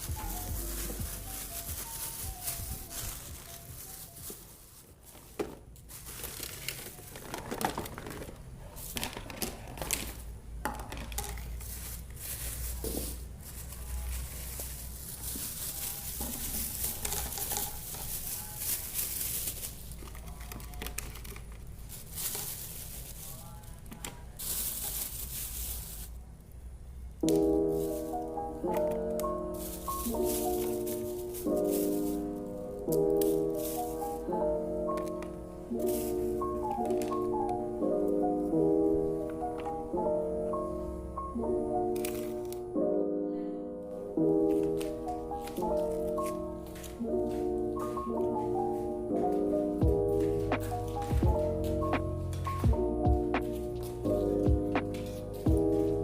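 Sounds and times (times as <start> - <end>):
crinkling and rustling: 0.0 - 26.6, 27.2 - 39.9, 41.9 - 42.7, 44.1 - 56.0.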